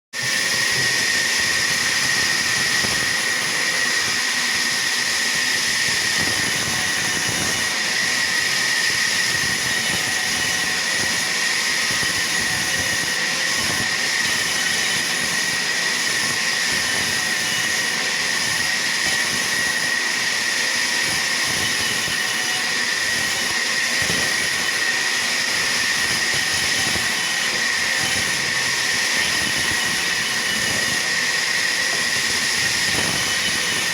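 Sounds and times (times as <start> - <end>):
sawmill machinery whine: 0.2 - 33.9.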